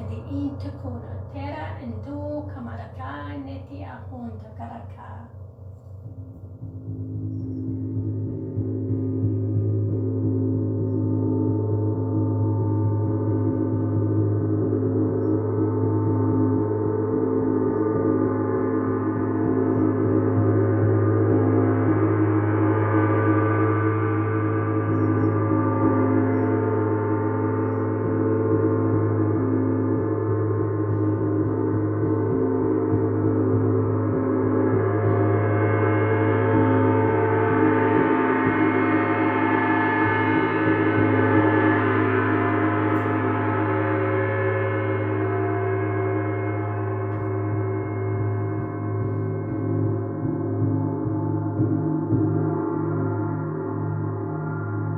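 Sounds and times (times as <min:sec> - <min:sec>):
gong ringing: 0:05.9 - 0:54.9.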